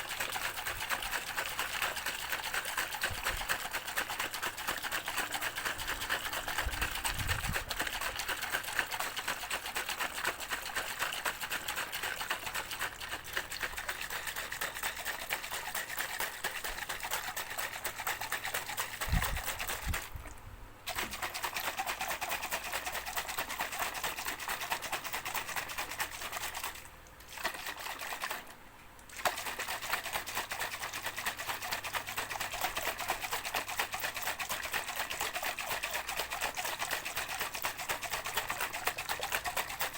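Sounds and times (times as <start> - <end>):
shaker rattling: 0.0 - 20.3, 20.9 - 28.5, 29.2 - 39.9.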